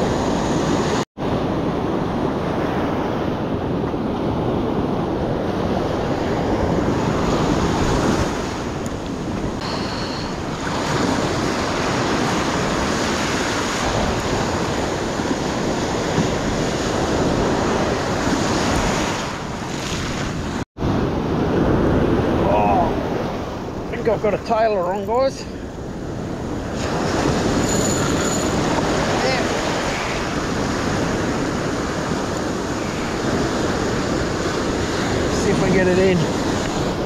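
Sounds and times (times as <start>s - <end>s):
surf breaking on a beach: 0.0s - 37.0s
wind buffeting microphone: 0.0s - 37.0s.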